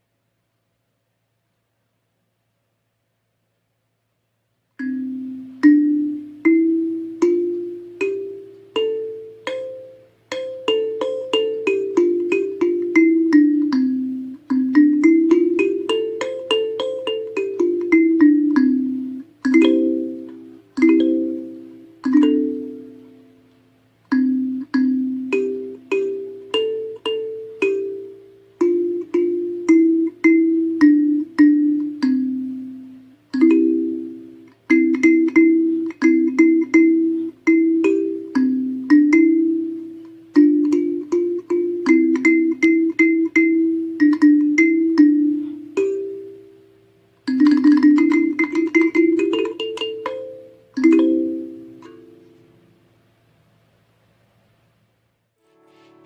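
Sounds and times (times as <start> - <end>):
kalimba melody: 4.8 - 23.4, 24.1 - 46.6, 47.3 - 52.7.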